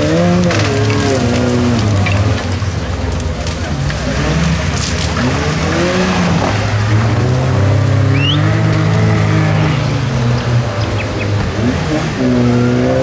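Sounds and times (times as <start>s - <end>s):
engine revving under load: 0.0s - 13.0s.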